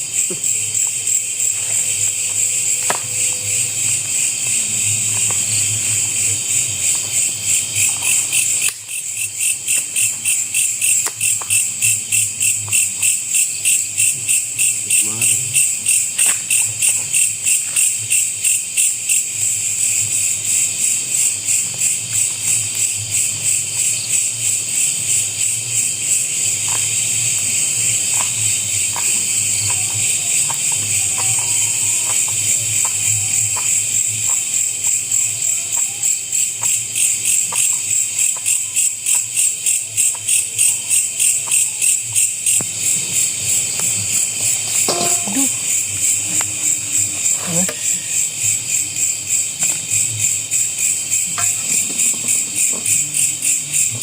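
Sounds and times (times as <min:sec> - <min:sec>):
night insects chirring: 0:00.0 - 0:54.0.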